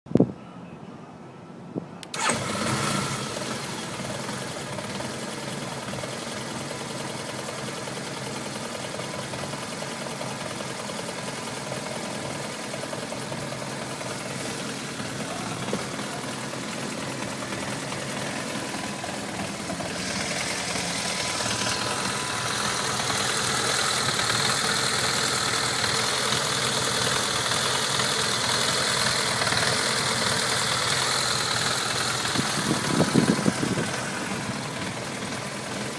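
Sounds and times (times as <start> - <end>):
motorcycle engine idling unevenly: 2.2 - 35.9.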